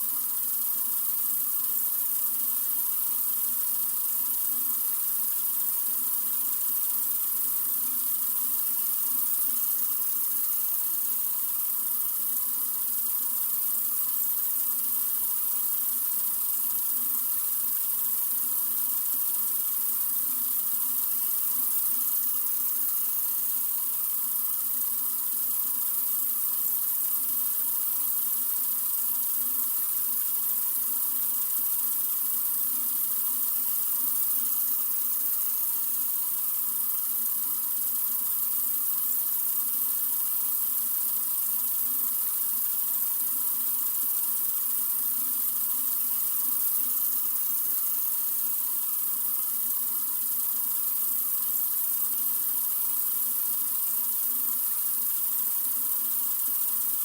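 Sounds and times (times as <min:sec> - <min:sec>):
sink faucet running: 0:00.1 - 0:57.0.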